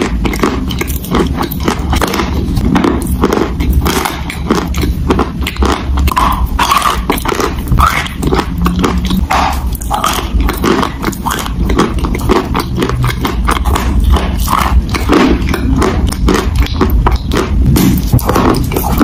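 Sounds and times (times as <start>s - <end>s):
mouth chewing wet chalk: 0.0s - 19.0s.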